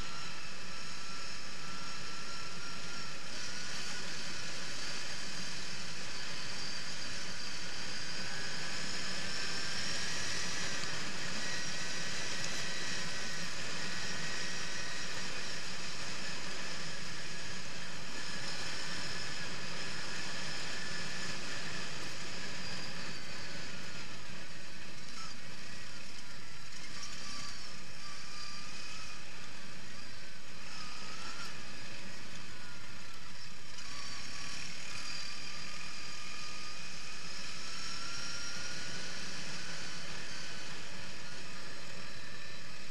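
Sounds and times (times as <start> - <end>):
quad bike engine running: 0.0 - 42.9.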